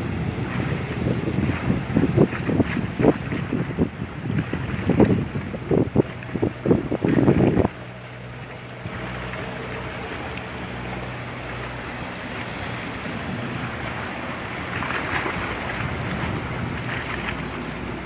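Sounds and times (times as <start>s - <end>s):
ferry engines humming: 0.0s - 2.3s, 5.0s - 18.0s
churning hiss of wake: 0.0s - 18.0s
wind on microphone: 0.0s - 18.0s.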